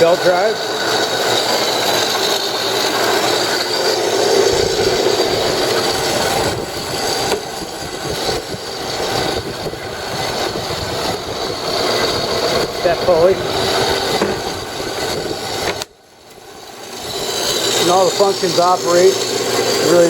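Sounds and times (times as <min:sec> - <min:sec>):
band saw whirring: 0:00.0 - 0:20.0.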